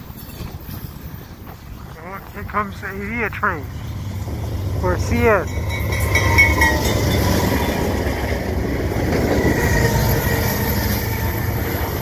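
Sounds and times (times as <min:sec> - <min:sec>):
locomotive engines rumbling: 0:00.0 - 0:12.0
wheels clattering on rail: 0:00.0 - 0:12.0.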